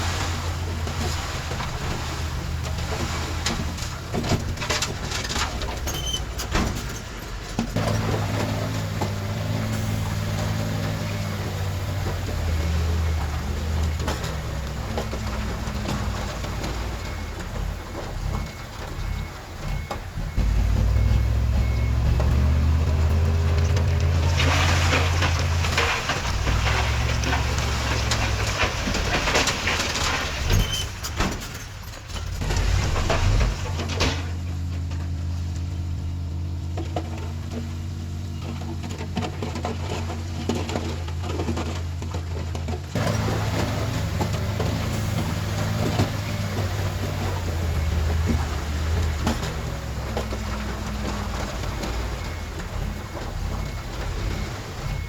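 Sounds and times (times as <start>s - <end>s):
crackling clatter: 0.0s - 55.0s
diesel machinery engine drone: 0.0s - 55.0s.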